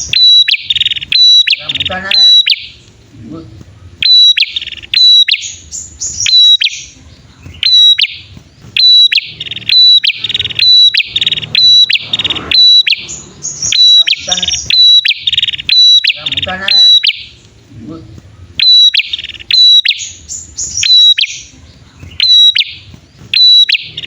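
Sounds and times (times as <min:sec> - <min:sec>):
bird sharp high chirps: 0:00.0 - 0:03.0, 0:04.0 - 0:17.6, 0:18.4 - 0:24.0
bird buzzy rattling trills: 0:00.0 - 0:24.0.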